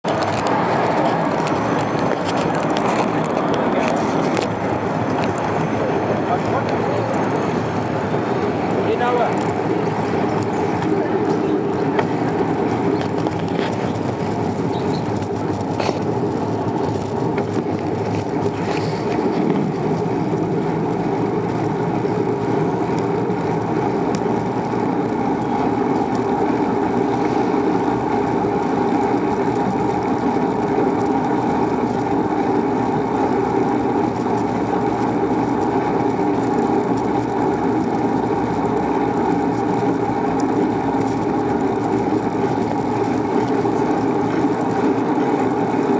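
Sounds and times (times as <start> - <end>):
bicycle road noise: 0.0 - 45.9.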